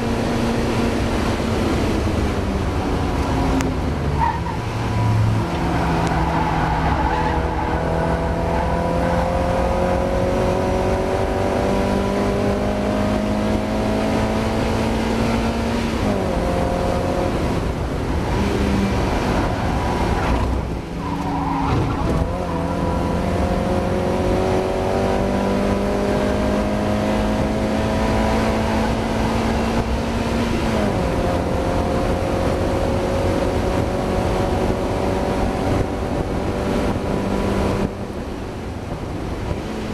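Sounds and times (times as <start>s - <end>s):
race car engine revving: 0.0s - 39.9s
tyre and wind noise: 0.0s - 39.9s.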